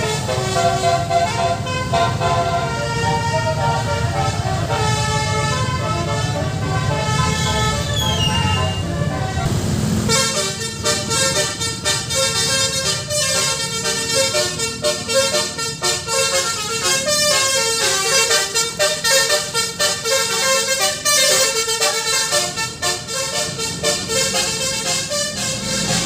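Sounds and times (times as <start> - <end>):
bus musical horn playing tune: 0.0 - 26.0.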